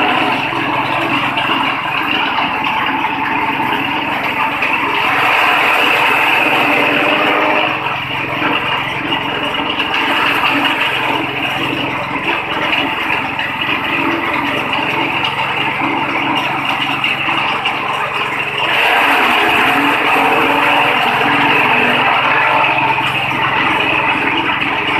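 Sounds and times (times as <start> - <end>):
grass chopper chopping grass: 0.0 - 16.5, 18.0 - 24.9.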